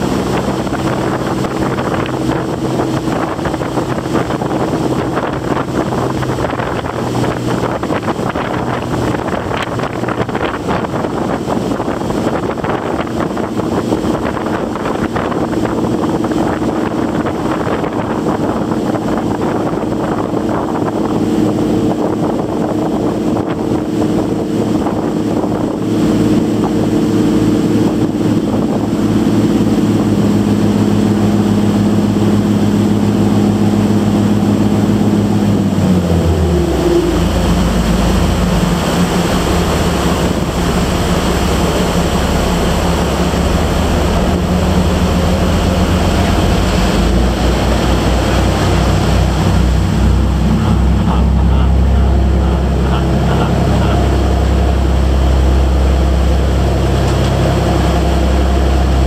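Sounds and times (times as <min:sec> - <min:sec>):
boat engine running: 0:00.0 - 0:59.0
water rushing past hull: 0:00.0 - 0:59.0.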